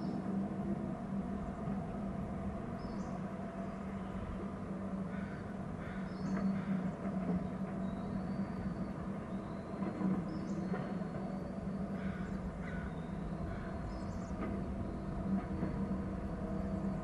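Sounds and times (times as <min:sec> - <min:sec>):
low outdoor background hum: 0:00.0 - 0:17.0.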